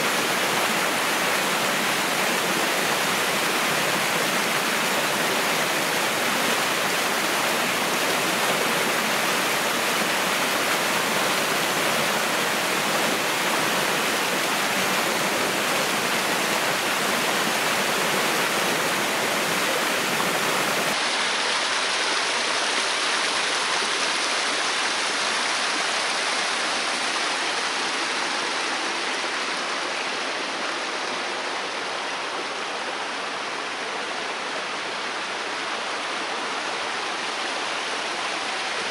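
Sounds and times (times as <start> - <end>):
water rushing at small waterfall: 0.0 - 38.9.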